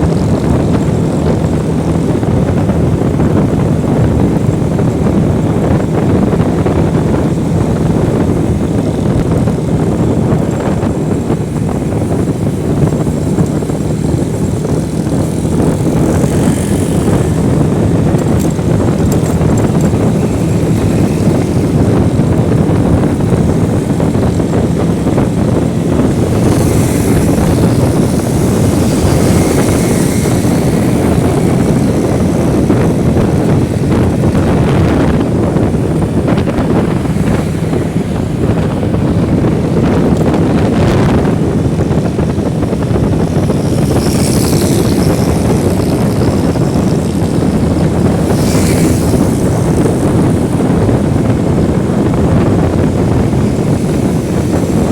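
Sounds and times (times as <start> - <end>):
motorcycle engine humming: 0.0 - 54.9
wind rush on microphone: 0.0 - 54.9.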